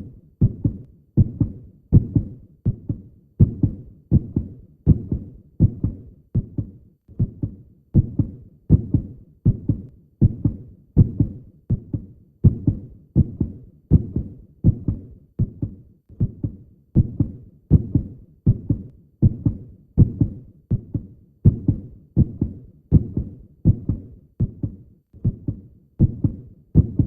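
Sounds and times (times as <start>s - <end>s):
heartbeat low thumps: 0.0s - 27.0s.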